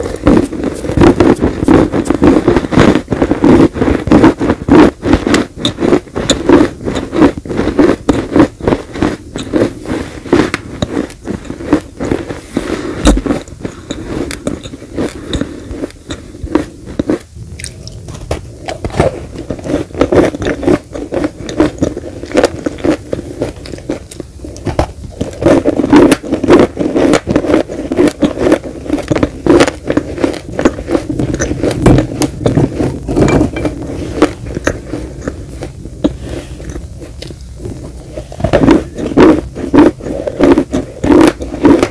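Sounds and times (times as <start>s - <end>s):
crunchy cookies being chewed: 0.0s - 41.9s.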